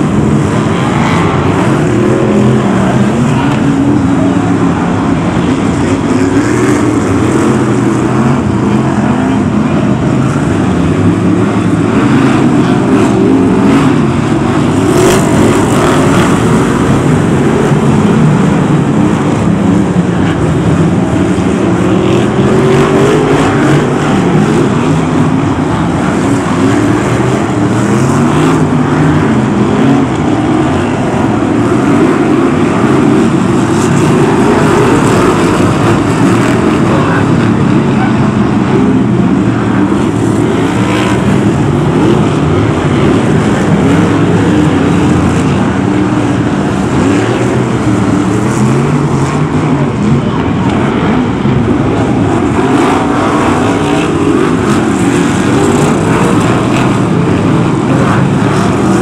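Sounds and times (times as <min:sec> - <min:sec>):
racing car engines revving: 0:00.0 - 0:59.0.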